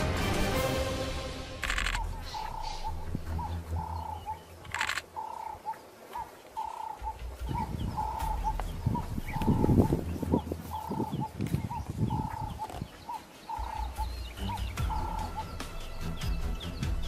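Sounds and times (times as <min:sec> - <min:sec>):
doves cooing: 0:01.7 - 0:15.6.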